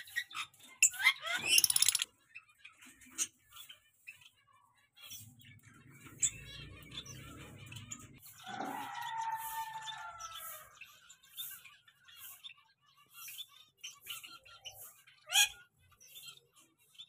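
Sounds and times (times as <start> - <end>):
cage birds chirping: 0.0 - 17.0.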